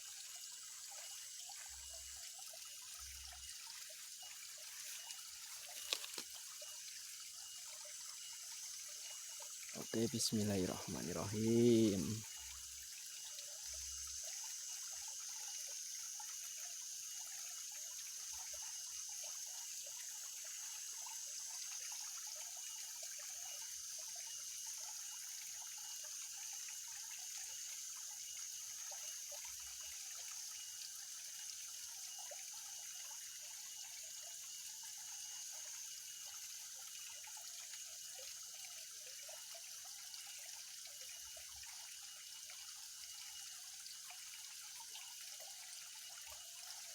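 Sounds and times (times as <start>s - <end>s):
water trickling into pond: 0.0s - 46.9s.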